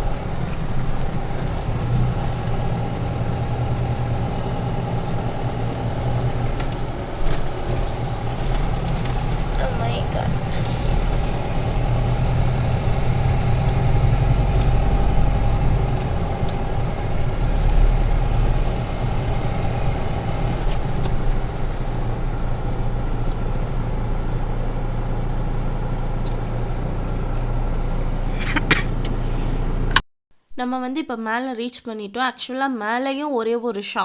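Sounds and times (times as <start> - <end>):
car engine rumble: 0.0 - 30.0
road noise: 0.0 - 30.5.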